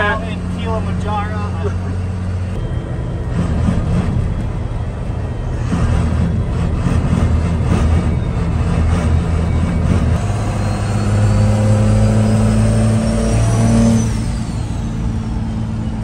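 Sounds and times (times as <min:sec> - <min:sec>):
diesel engine pulling: 0:00.0 - 0:16.0
thin rising whine: 0:00.0 - 0:16.0.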